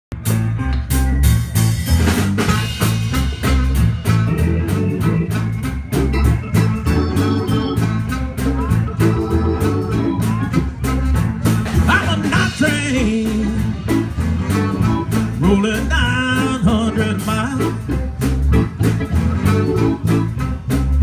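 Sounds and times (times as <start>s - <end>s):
bass line: 0.1s - 21.0s
drum kit steady beat: 0.1s - 21.0s
electric guitar: 0.1s - 21.0s
organ: 0.1s - 21.0s.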